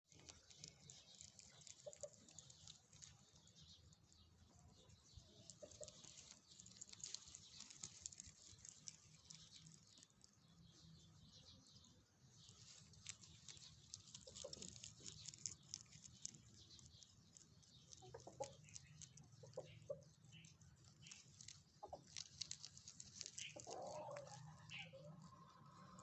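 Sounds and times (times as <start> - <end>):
rabbits chewing leaves: 0.0 - 26.0.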